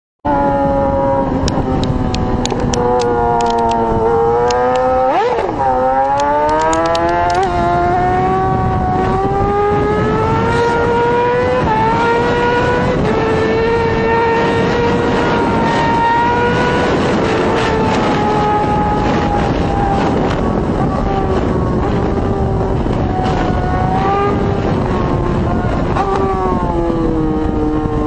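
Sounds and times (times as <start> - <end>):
motorcycle engine running hard: 0.3 - 28.0
wind rush: 0.3 - 28.0.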